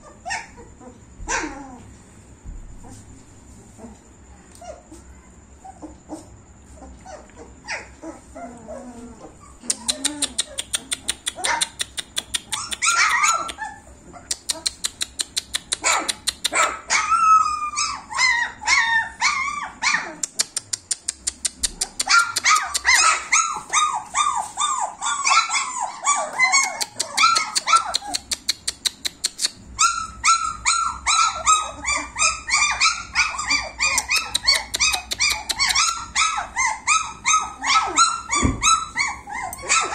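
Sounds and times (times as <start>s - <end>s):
puppies yelping: 0.0s - 1.9s, 5.6s - 39.9s.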